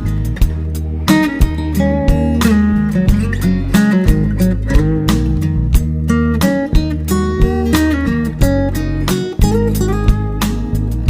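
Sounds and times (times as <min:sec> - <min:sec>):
plucked guitar tune with beat: 0:00.0 - 0:11.0.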